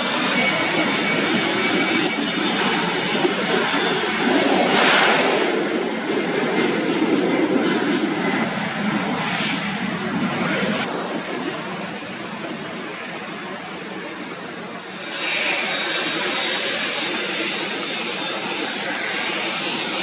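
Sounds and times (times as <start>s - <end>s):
airliner engines passing: 0.0s - 20.0s.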